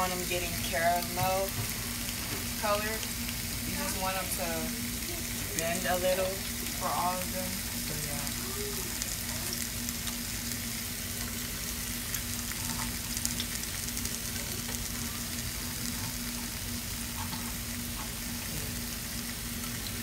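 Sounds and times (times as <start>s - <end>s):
onions and peppers sizzling: 0.0s - 20.0s.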